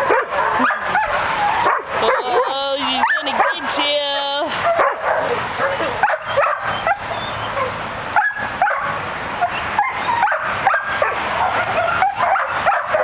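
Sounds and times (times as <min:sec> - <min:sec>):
dog yipping and whining: 0:00.1 - 0:03.5, 0:04.7 - 0:13.0.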